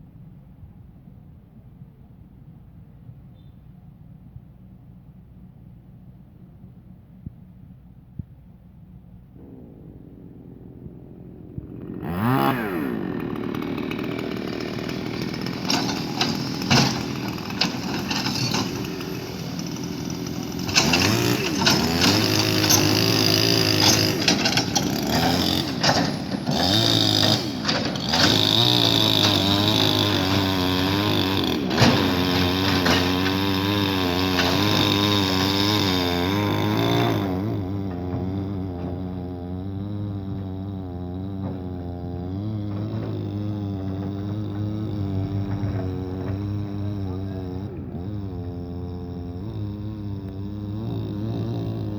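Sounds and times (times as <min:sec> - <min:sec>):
machinery engine revving: 0:09.4 - 0:51.9
sharp clanks and knocks: 0:09.4 - 0:51.9.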